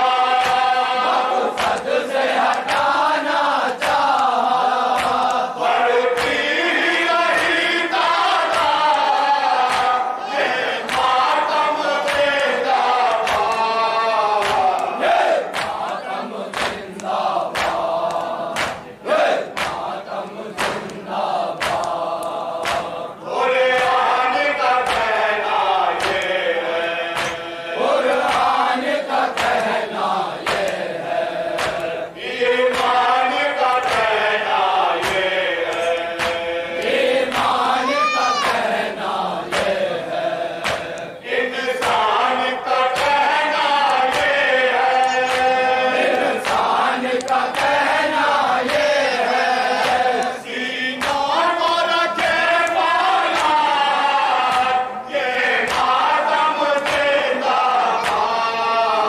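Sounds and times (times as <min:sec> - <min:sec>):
men chanting lament in chorus: 0:00.0 - 0:59.0.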